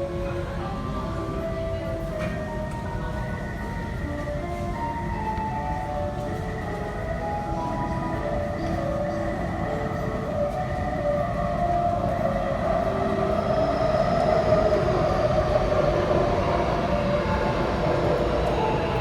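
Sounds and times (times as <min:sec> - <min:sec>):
train arrival melody: 0:00.0 - 0:19.0
train wheel noise on rails: 0:00.0 - 0:19.0.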